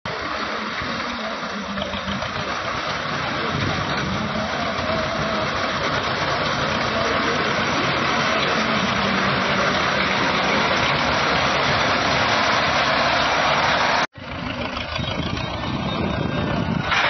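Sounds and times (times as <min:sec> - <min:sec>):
tractor engine under load: 0:00.1 - 0:17.0.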